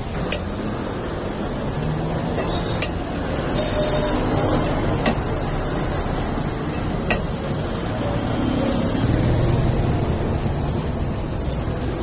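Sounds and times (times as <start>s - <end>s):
street stall rumble and hum: 0.0s - 12.0s.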